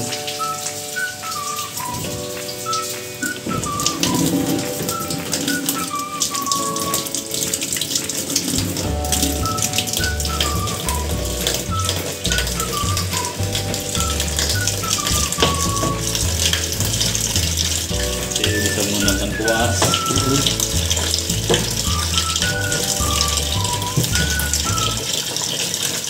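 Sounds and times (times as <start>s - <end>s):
background music: 0.0s - 25.3s
water splashing in washing machine: 0.0s - 26.0s.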